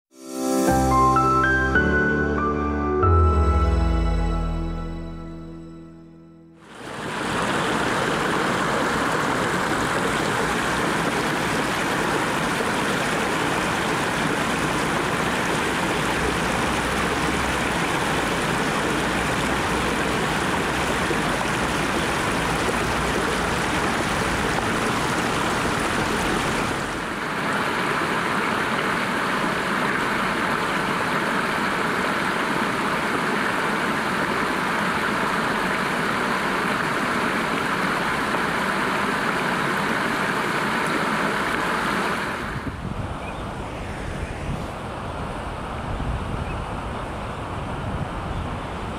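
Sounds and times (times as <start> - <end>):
stream water rushing over stones: 6.6 - 46.0.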